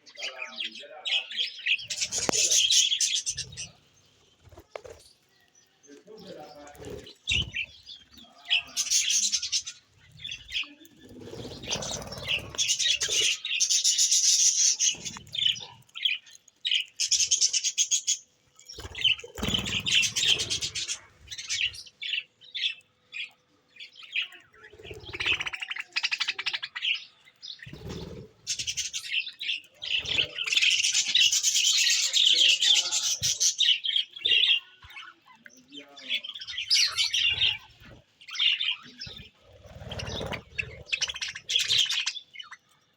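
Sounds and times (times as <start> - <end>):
small birds twittering: 0.0 - 42.9.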